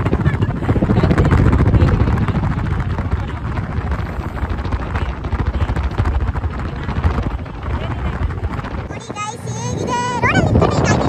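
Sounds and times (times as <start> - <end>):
engine noise: 0.0 - 11.0
road noise: 0.0 - 11.0
wind buffeting microphone: 0.0 - 11.0.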